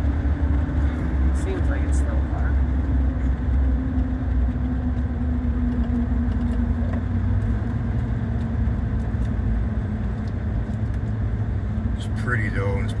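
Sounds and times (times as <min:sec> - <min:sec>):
car interior engine drone: 0:00.0 - 0:13.0.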